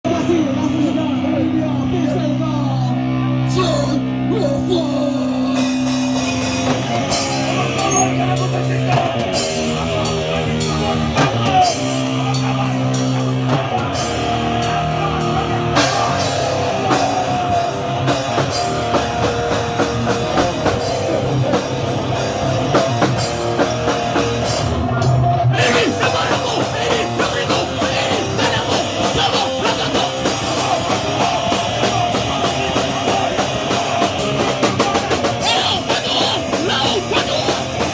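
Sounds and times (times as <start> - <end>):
distorted guitar and bass: 0.0 - 37.9
drum kit: 5.3 - 37.9.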